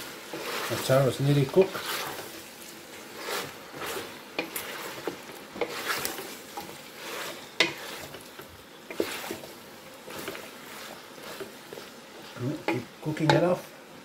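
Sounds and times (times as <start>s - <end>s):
spatula scraping a metal pot: 0.0s - 2.4s, 3.0s - 13.5s
light sizzle of frying: 0.0s - 14.0s.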